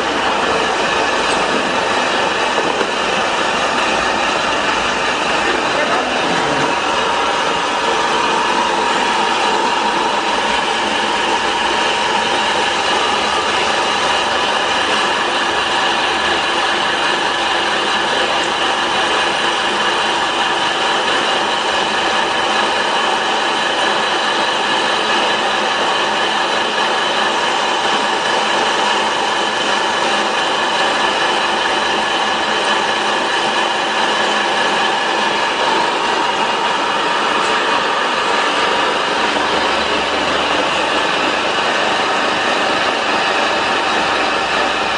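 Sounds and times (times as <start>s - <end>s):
pellet mill machine drone: 0.0s - 44.9s.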